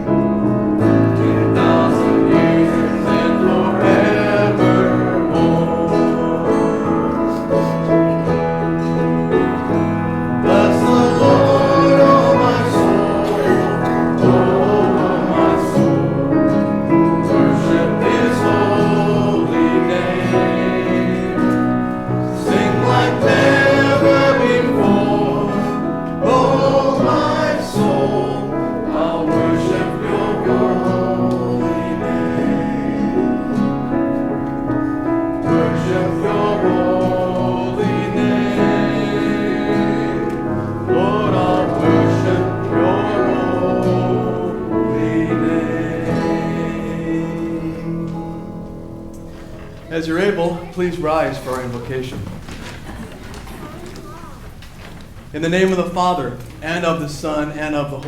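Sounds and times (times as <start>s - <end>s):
piano accompaniment: 0.0s - 52.5s
choir singing a hymn: 0.0s - 53.6s.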